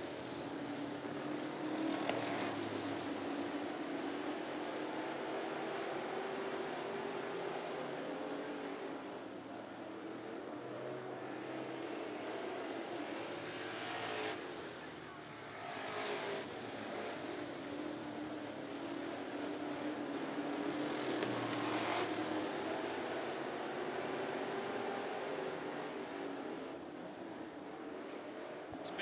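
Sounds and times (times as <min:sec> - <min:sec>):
race car engines drone: 0:00.0 - 0:29.0.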